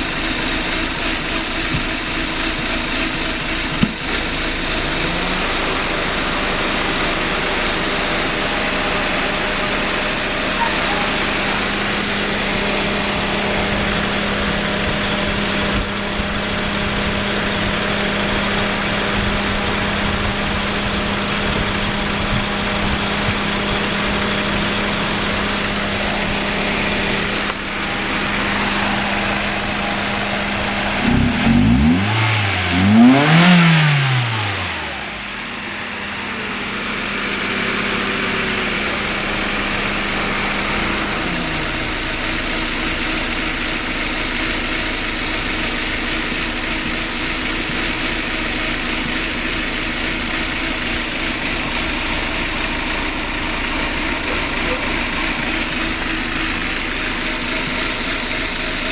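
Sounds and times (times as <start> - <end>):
car engine idling roughly: 0.0 - 58.9
engine revving: 0.0 - 58.9.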